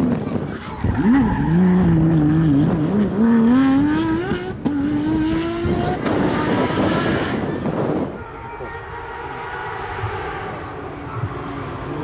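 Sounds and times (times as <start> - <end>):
car engine accelerating hard: 1.0 - 8.1, 9.0 - 12.0.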